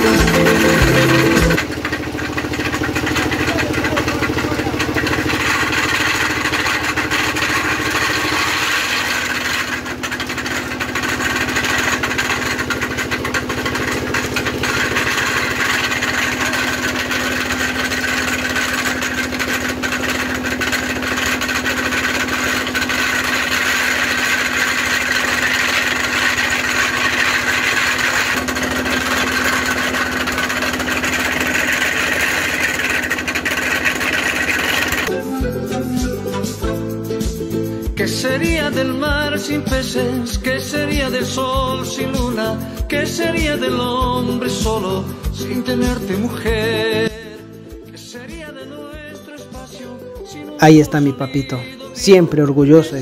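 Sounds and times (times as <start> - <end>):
diesel engine running: 0.0 - 48.5.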